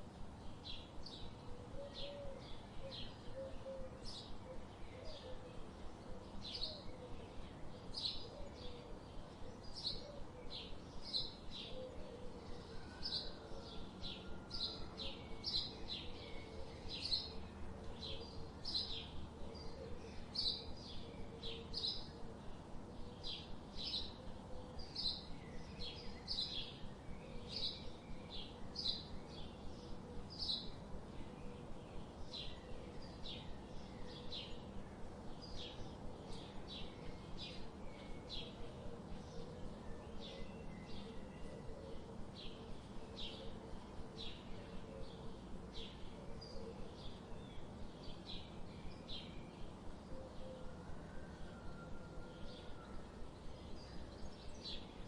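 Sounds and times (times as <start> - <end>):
low background hiss: 0.0 - 55.0.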